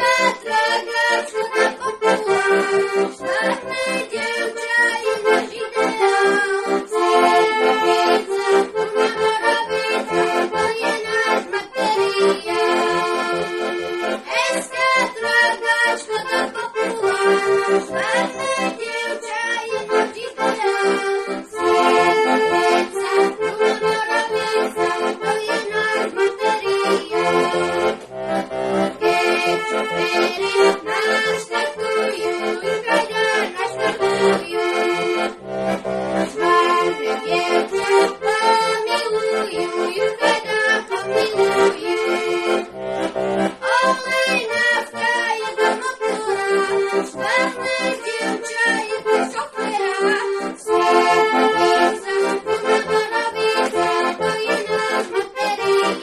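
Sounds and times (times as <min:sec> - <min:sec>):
boy singing: 0:00.0 - 0:28.0, 0:28.9 - 0:35.4, 0:36.2 - 0:42.7, 0:43.5 - 0:56.0
button accordion folk tune: 0:00.0 - 0:56.0.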